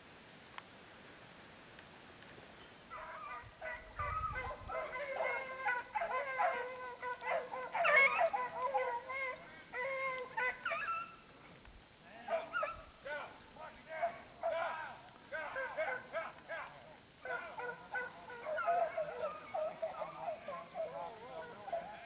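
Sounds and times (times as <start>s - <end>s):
hounds baying: 2.9s - 11.3s, 12.1s - 22.0s.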